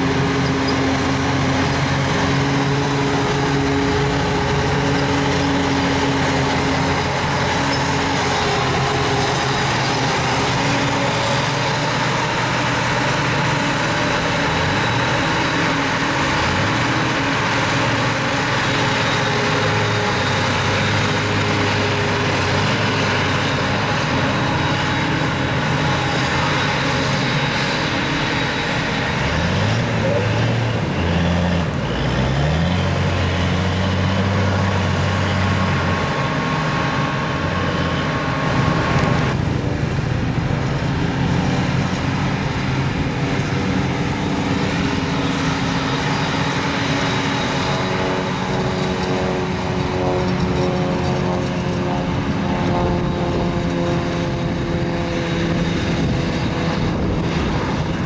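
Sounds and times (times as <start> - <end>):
forage harvester chopping grass: 0.0 - 58.0
tractor engine: 0.0 - 58.0.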